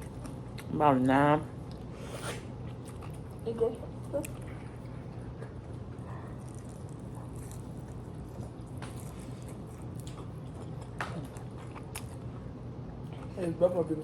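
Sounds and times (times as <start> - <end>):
low room hum: 0.0 - 14.0
wet chewing and eating: 1.6 - 13.7.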